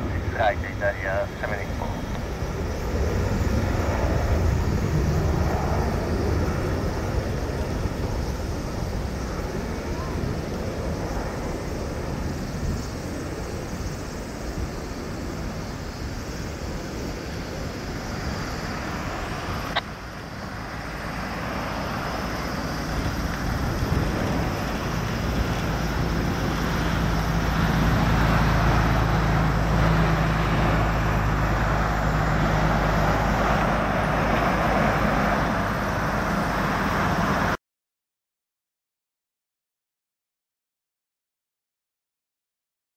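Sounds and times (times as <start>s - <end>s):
jet engine roar: 0.0s - 37.6s.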